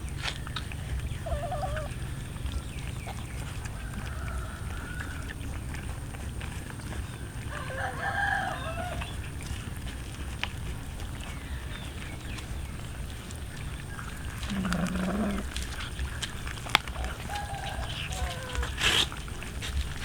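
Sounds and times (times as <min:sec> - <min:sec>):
animal calls: 0:00.0 - 0:20.0
low outdoor background noise: 0:00.0 - 0:20.0.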